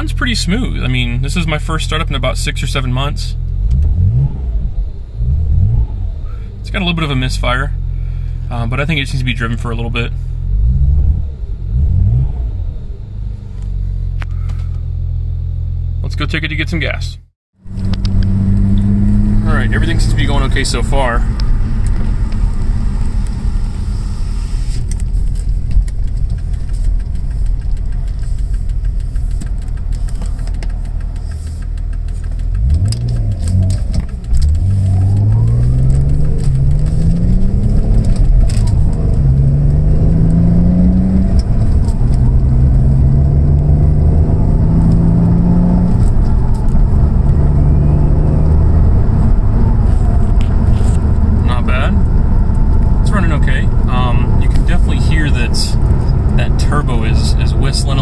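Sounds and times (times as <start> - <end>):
car engine accelerating: 0.0 - 17.0, 17.6 - 58.0.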